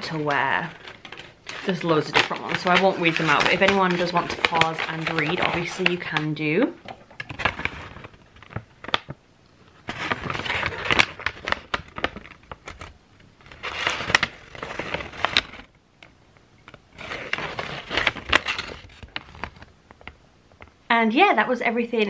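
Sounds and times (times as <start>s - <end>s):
paper crinkling and rustling: 0.0s - 15.8s, 16.6s - 20.7s.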